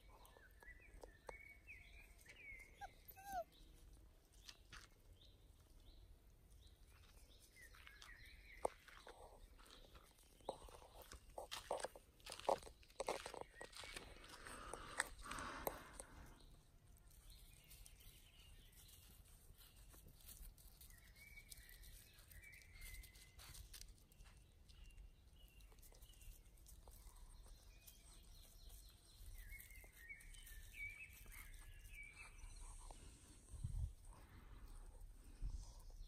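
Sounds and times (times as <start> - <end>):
faint birdsong chirping: 0.0 - 36.0.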